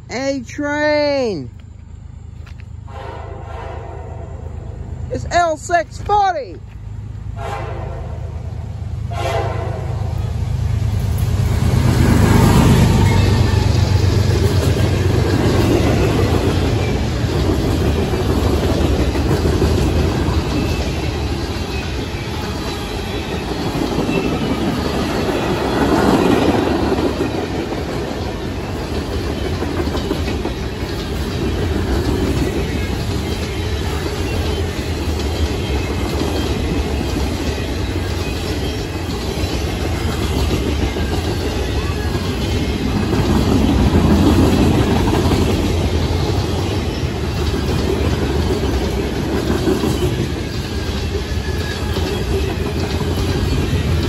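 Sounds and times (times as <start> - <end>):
train wheels rumbling on rails: 1.4 - 54.0.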